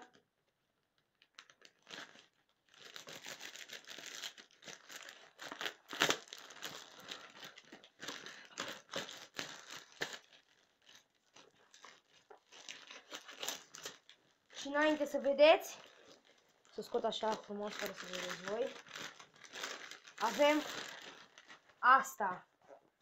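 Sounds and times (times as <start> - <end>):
plastic film tearing and crinkling: 1.0 - 21.8.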